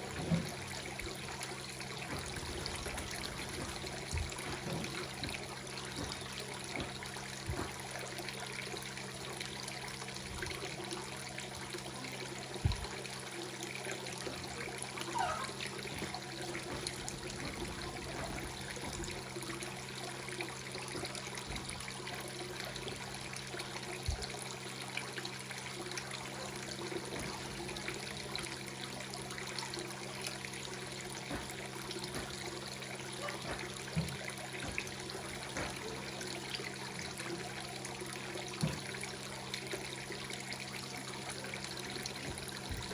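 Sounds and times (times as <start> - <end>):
water trickling into pond: 0.0 - 42.9.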